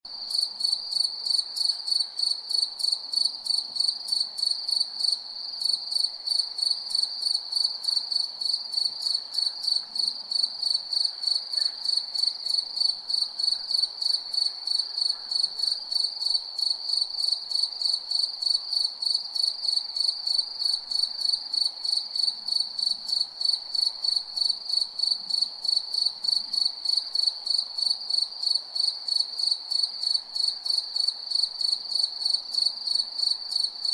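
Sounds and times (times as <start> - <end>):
cricket chirping: 0.1 - 33.9.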